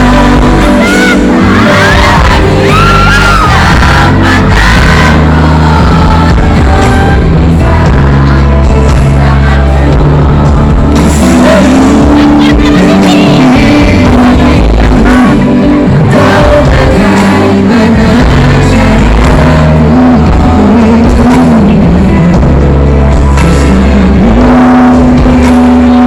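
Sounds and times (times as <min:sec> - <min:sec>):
heavy bass: 0:00.0 - 0:26.0
music with singing voice: 0:00.0 - 0:26.0.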